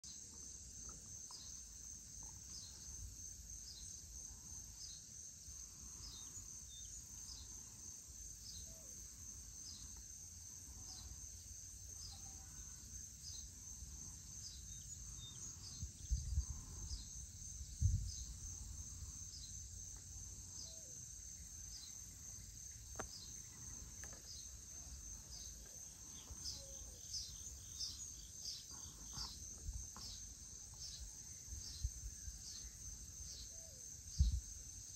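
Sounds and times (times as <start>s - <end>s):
crickets trilling: 0.0s - 34.9s.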